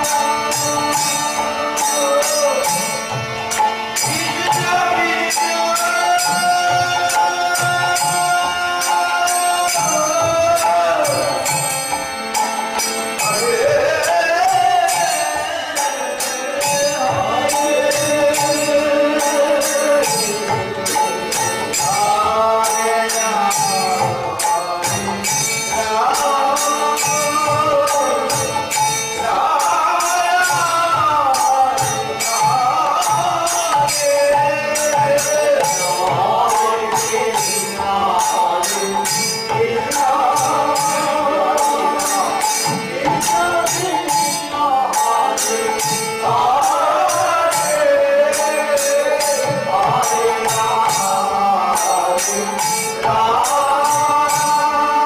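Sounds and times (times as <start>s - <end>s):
hand drums: 0.0s - 55.0s
harmonium: 0.0s - 55.0s
voices singing devotional song: 0.0s - 55.0s.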